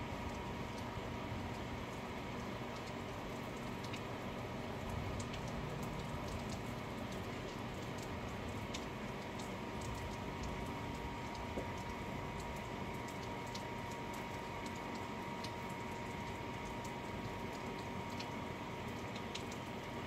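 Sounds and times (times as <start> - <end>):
sharp drip ticks: 0.0 - 20.0
steady rain: 0.0 - 20.0.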